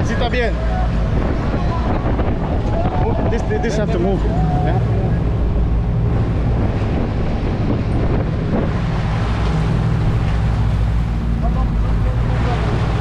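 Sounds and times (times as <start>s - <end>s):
outboard motors running: 0.0s - 13.0s
water rushing from wake: 0.0s - 13.0s
wind buffeting microphone: 0.0s - 13.0s.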